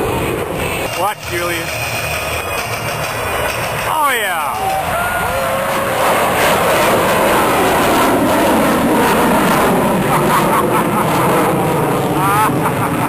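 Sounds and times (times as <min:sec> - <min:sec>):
fighter jet roaring overhead: 0:00.0 - 0:13.0.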